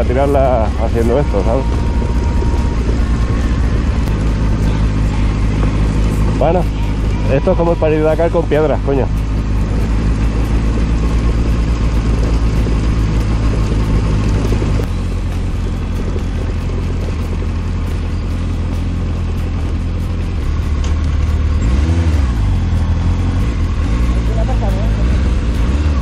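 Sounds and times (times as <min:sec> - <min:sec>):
motorcycle engine running: 0:00.0 - 0:26.0
stones crackling under tyres: 0:00.0 - 0:26.0.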